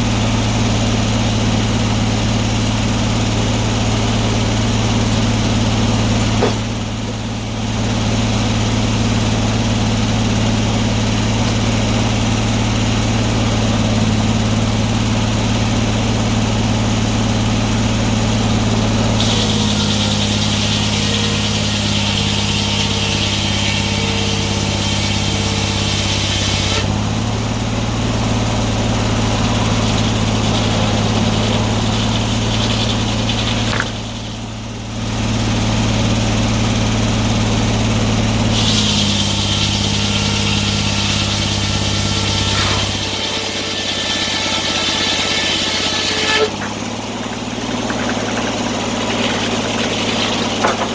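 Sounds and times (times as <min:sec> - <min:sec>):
saw hissing through log: 0:00.0 - 0:50.9
sawmill engine drone: 0:00.0 - 0:50.9.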